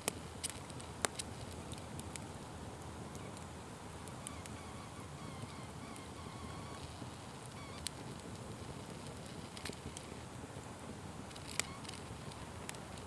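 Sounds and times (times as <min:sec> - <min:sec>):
fire flames rushing: 0:00.0 - 0:04.7, 0:05.3 - 0:13.0
fire crackling and popping: 0:00.0 - 0:13.0.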